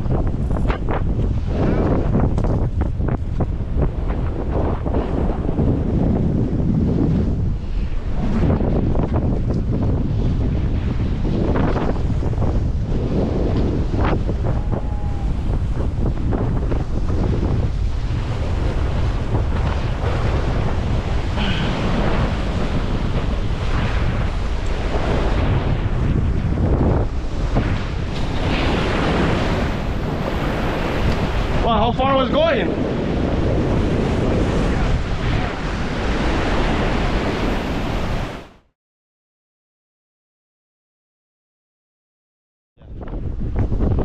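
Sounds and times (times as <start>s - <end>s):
ocean surf on shore: 0.0s - 38.6s
wind buffeting microphone: 0.0s - 38.6s, 42.8s - 44.0s.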